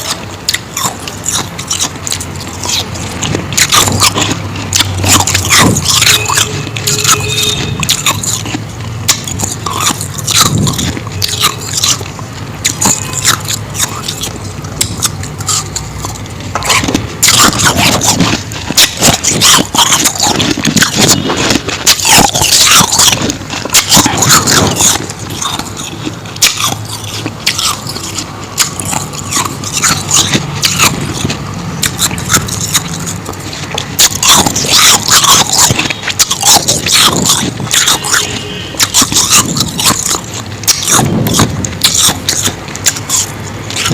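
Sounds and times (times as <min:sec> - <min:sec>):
person chewing ice: 0:00.0 - 0:43.9.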